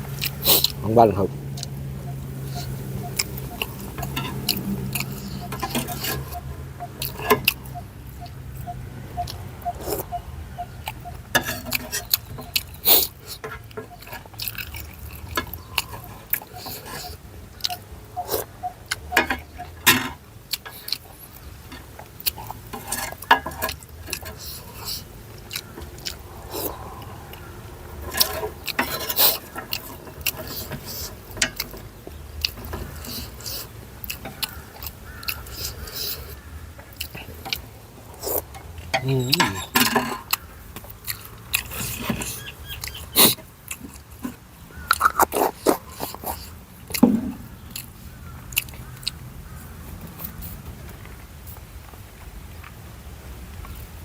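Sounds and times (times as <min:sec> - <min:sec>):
person chewing and smacking: 0:02.4 - 0:10.2, 0:11.8 - 0:19.1, 0:20.5 - 0:54.0.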